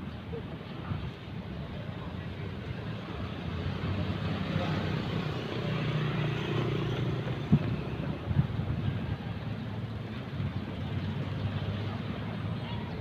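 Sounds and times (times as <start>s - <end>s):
car and motorcycle engines: 2.0s - 13.0s.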